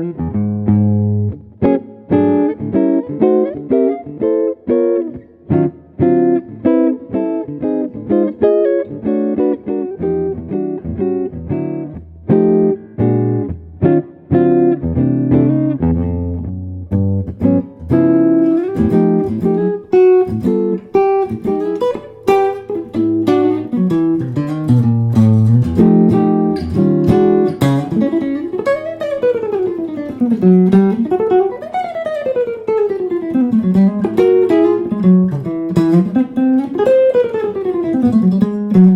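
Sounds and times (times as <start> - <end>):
guitar playing: 0.0 - 38.9.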